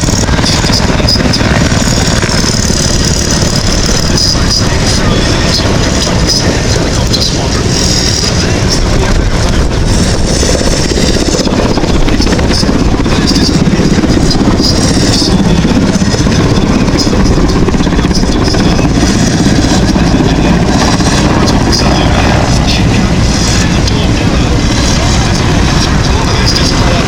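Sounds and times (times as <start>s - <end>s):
helicopter flying: 0.0s - 27.0s.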